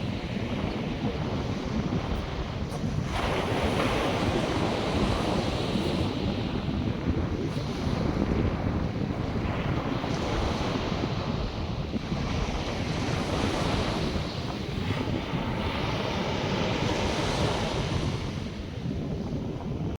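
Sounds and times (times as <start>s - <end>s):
surf washing onto beach: 0.0s - 19.8s
wind buffeting microphone: 0.0s - 20.0s.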